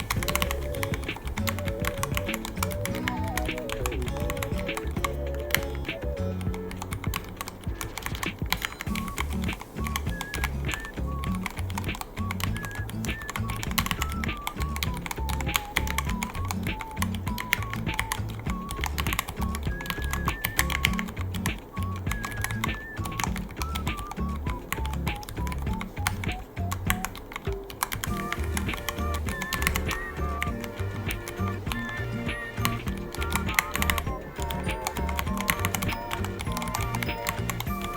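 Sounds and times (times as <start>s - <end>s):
background music with bass beat: 0.0s - 37.9s
mechanical keyboard typing: 0.0s - 37.9s.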